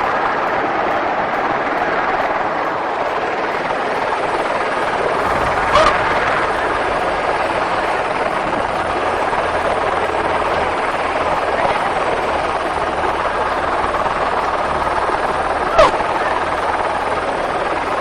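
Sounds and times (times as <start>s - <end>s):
helicopter rotor and engine running: 0.0s - 18.0s.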